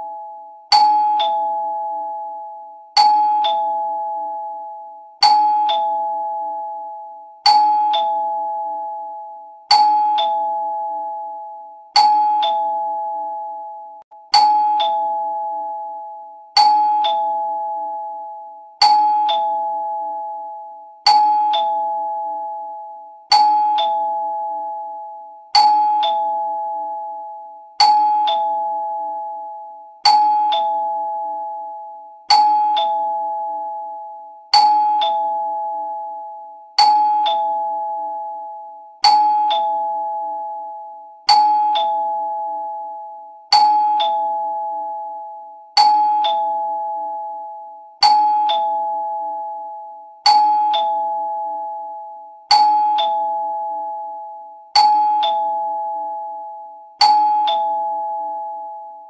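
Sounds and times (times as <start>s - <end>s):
two-tone doorbell chime: 0.0s - 59.0s.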